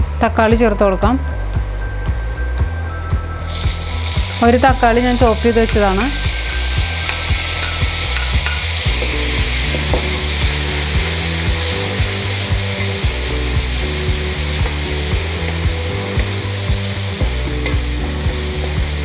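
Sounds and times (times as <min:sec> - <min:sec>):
tomatoes sizzling in oil: 0:03.4 - 0:19.0.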